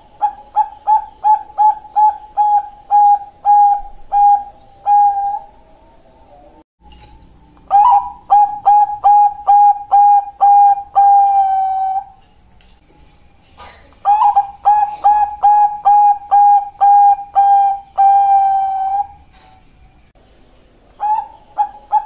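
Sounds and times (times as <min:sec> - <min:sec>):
dove cooing: 0:00.0 - 0:06.6, 0:07.6 - 0:12.2, 0:13.6 - 0:19.7, 0:21.0 - 0:22.0.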